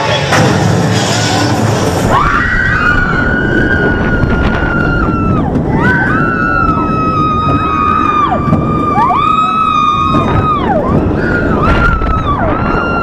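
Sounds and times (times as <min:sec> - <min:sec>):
roller coaster rumbling on track: 0:00.0 - 0:13.0
riders screaming: 0:01.9 - 0:13.0.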